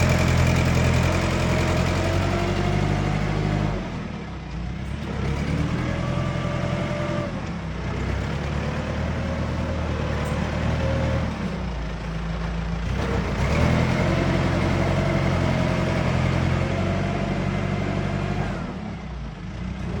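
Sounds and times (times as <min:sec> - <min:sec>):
excavator engine revving: 0:00.0 - 0:20.0.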